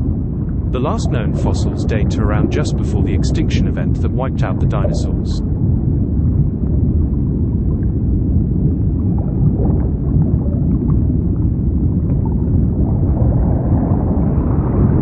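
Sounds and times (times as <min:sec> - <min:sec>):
faint bubbling: 0:00.0 - 0:15.0
low underwater rumble: 0:00.0 - 0:15.0.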